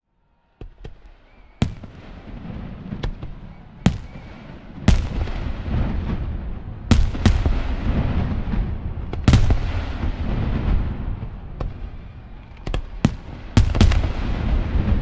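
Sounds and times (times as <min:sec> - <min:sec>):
rolling echo rumble: 0:00.3 - 0:15.0
fireworks bursting: 0:00.6 - 0:15.0.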